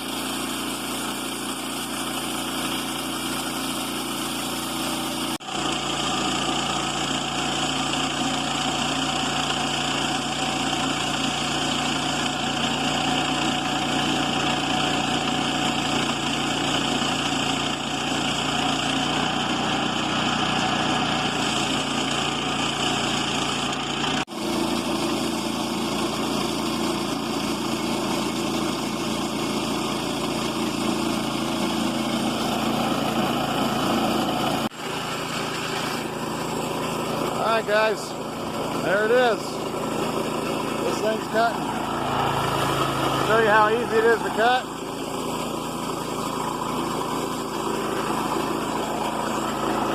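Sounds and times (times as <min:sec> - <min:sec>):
sawmill gas engine running: 0:00.0 - 0:49.9.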